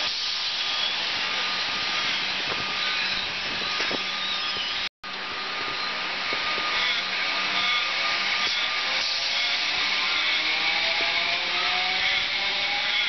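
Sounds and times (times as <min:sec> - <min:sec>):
train motor whine rising: 0:00.0 - 0:13.0
train wheels rushing on rail: 0:00.0 - 0:13.0.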